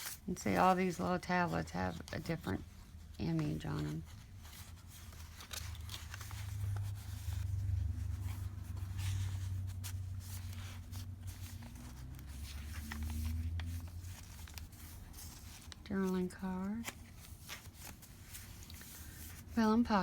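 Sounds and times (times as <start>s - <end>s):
paper rustling and crinkling: 0.0s - 20.0s.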